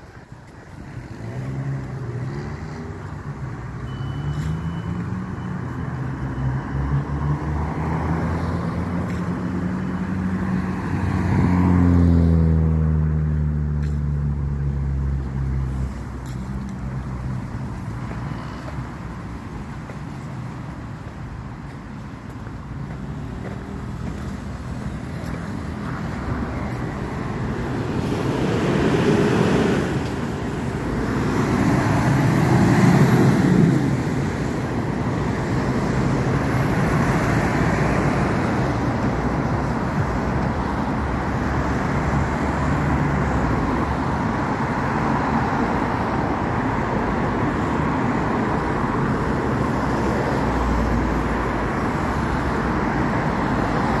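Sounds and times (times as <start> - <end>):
cars passing: 0.0 - 54.0.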